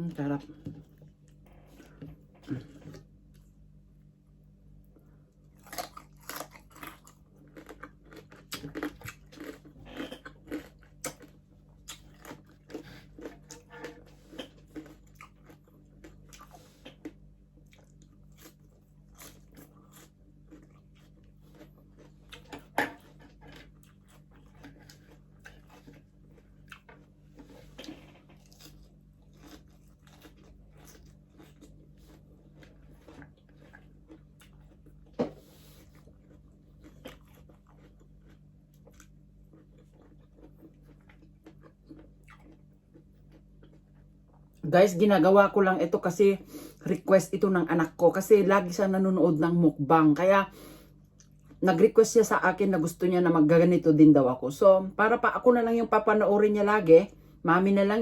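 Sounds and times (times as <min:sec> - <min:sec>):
chewing crispy pork skin: 0:00.6 - 0:46.1, 0:50.9 - 0:51.8.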